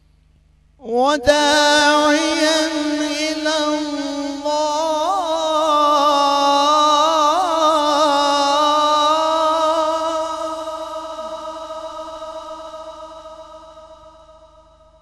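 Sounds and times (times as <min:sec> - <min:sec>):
man reciting melodically through microphone: 0:00.8 - 0:13.7.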